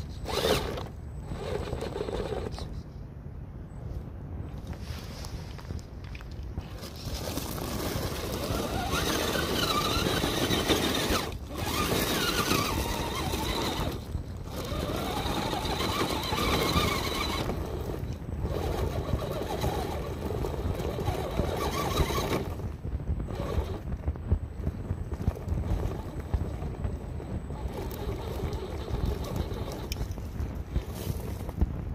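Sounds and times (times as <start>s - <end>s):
toy car motor and gears whining: 0.0s - 2.8s, 6.8s - 23.9s, 24.6s - 31.5s
wind on microphone: 4.0s - 31.9s.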